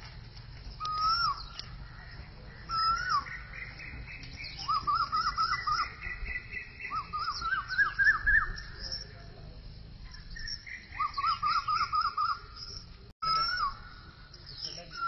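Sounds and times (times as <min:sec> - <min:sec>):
bird-like whistled notes: 0:00.8 - 0:09.2, 0:10.1 - 0:15.0
wavering chirps: 0:00.8 - 0:09.3, 0:10.0 - 0:15.0.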